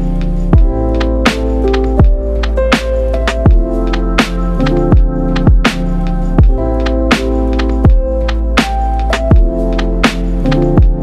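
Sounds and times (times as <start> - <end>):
held synth chords: 0.0 - 11.0
deep kick drum: 0.5 - 9.6, 10.7 - 11.0.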